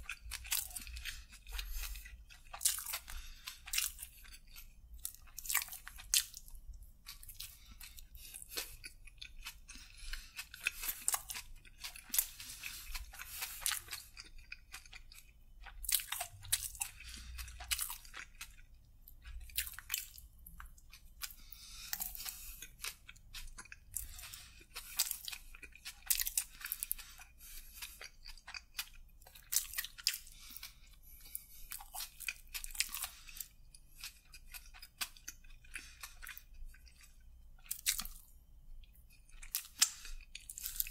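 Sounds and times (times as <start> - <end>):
chewing crusty bread: 0.0 - 40.9.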